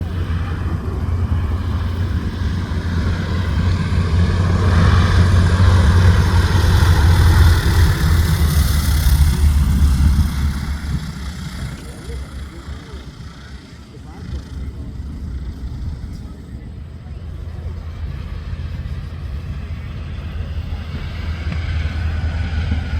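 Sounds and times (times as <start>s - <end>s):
propeller aircraft engine: 0.0s - 22.9s.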